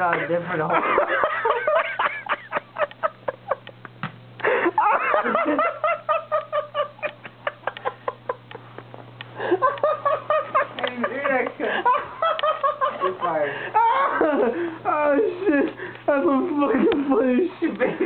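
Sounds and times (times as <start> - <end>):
men laughing hard: 0.0 - 3.8, 4.4 - 18.0.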